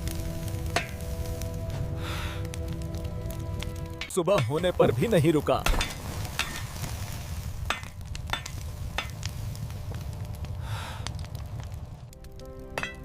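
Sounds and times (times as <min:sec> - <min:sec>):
fire crackling with pops: 0:00.0 - 0:13.0.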